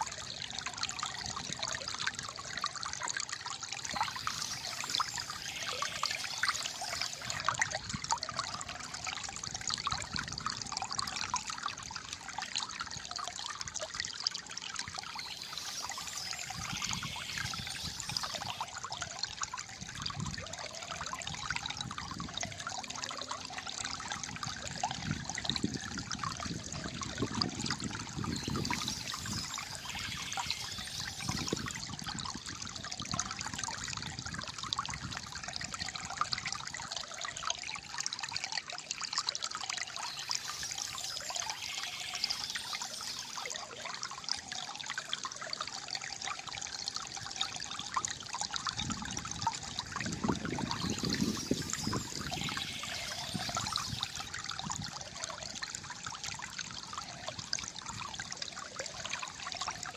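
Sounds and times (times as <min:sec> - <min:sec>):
rushing water: 0:00.0 - 0:59.9
water gurgling and trickling: 0:00.0 - 0:59.9.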